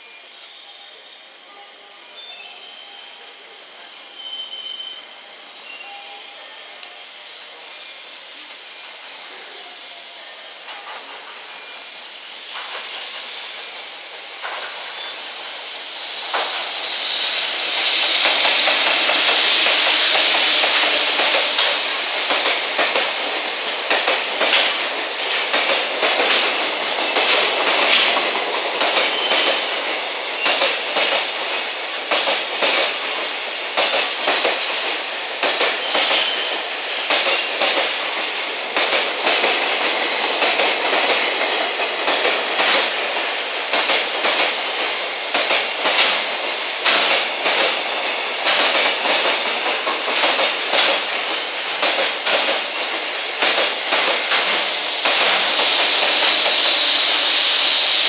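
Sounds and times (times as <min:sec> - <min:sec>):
electric train rushing past: 0:02.8 - 0:58.0.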